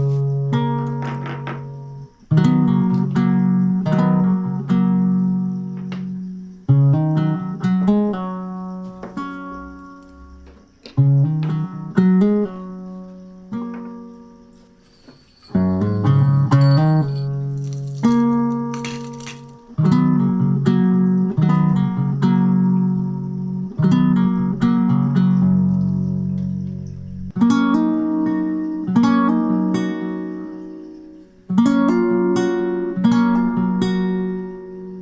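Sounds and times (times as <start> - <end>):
acoustic guitar slow chords: 0.0 - 35.0.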